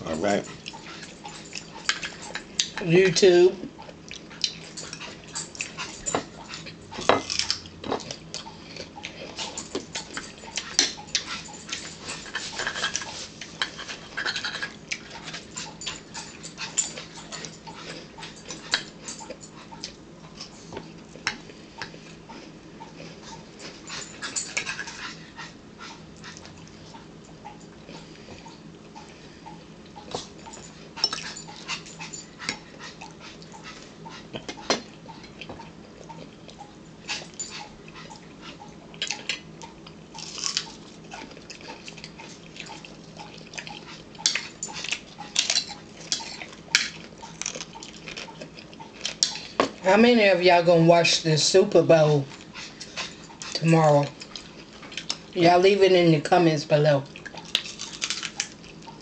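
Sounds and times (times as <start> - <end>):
crunching of eating: 3.7 - 49.8, 52.2 - 55.4, 57.0 - 59.0.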